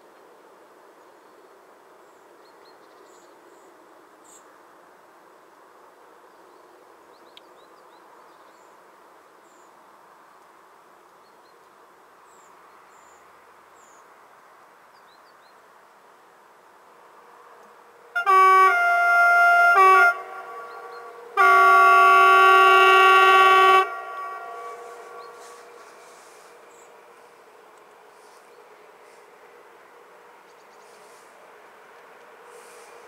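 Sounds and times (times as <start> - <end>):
faint background noise: 0.0 - 33.0.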